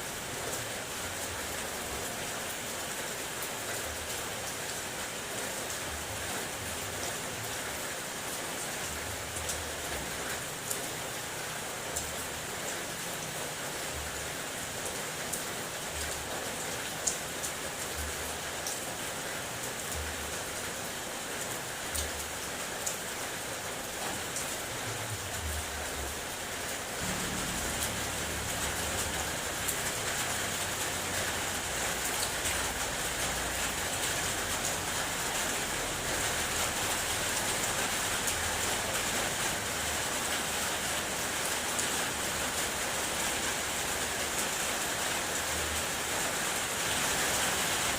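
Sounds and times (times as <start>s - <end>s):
rain on a car body: 0.0s - 47.9s.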